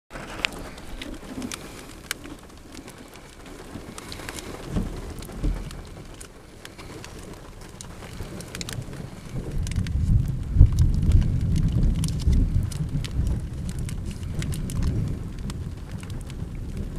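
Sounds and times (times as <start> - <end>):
low thunder rumbles: 0.1 - 16.9
rain falling: 0.1 - 16.9
raindrops ticking: 0.1 - 16.9.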